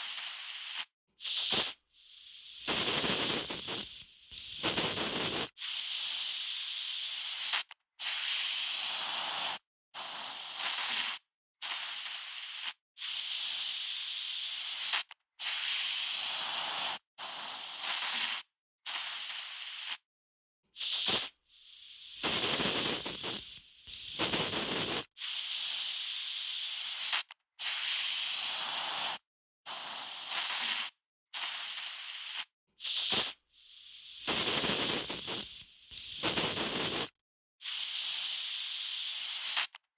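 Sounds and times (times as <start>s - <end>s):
aerosol spray can hissing: 0.0s - 20.0s, 20.8s - 39.8s.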